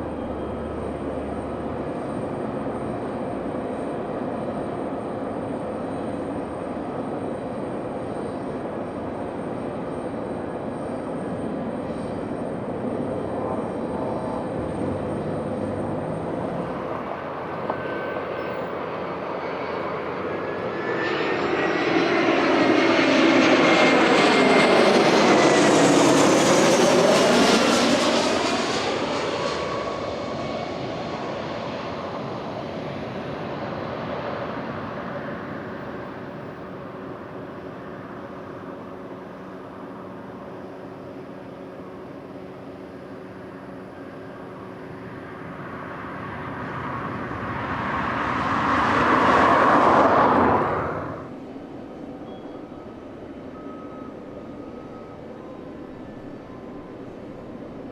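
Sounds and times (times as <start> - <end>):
jet airliner engines passing: 0.0 - 57.9.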